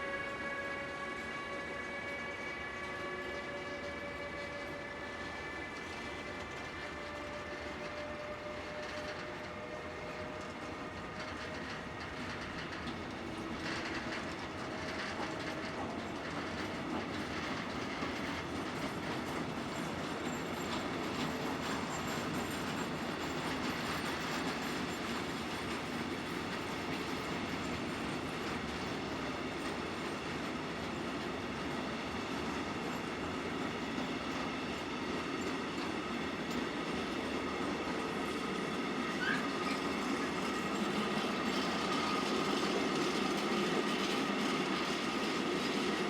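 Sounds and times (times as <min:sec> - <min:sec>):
train running on rails: 0:00.0 - 0:46.0.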